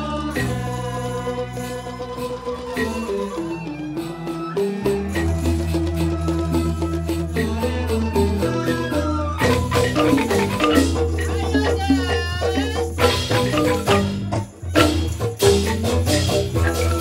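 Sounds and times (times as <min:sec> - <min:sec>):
bamboo flute: 0:00.0 - 0:17.0
bamboo xylophones playing: 0:00.0 - 0:17.0.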